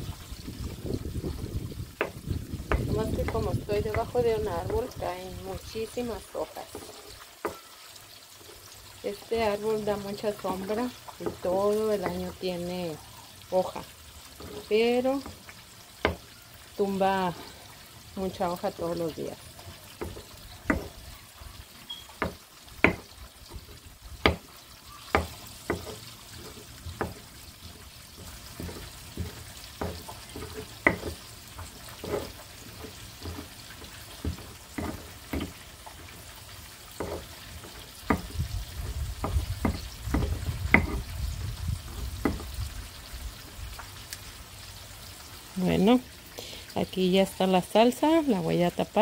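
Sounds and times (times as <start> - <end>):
frying sizzle: 0.0 - 49.0.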